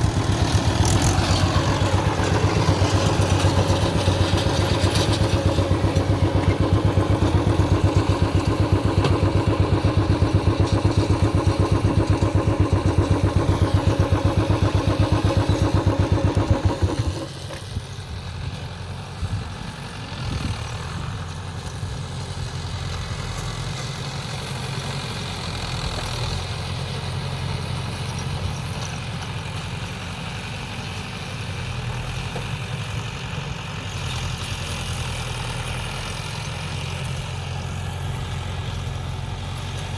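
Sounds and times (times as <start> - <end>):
tractor diesel engine pulsing: 0.0 - 39.9.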